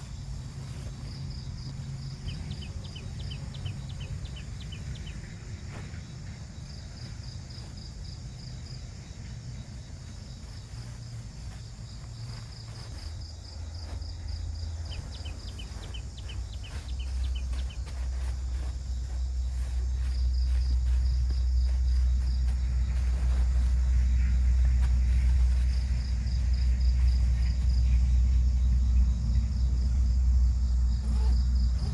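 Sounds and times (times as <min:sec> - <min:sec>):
insects chirping: 0:00.0 - 0:31.9
low rumble: 0:00.0 - 0:31.9.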